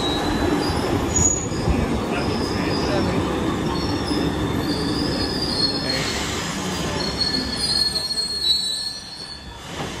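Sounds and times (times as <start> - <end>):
high-pitched brake squeal: 0.0 - 10.0
subway train rumbling: 0.0 - 10.0.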